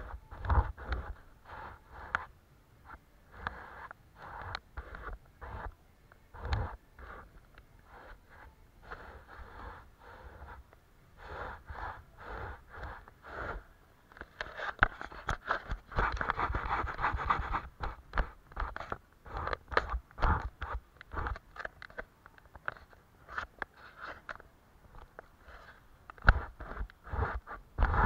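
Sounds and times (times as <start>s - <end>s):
paintbrush strokes scraping paper: 0.0s - 21.6s, 22.7s - 24.4s, 25.1s - 28.0s.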